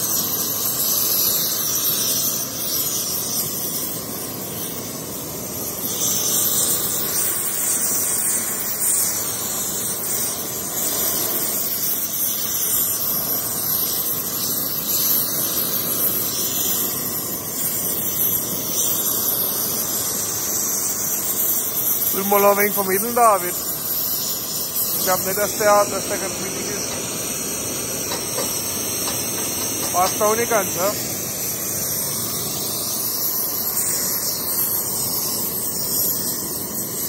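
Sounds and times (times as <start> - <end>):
gas torch hissing: 0.0 - 37.0.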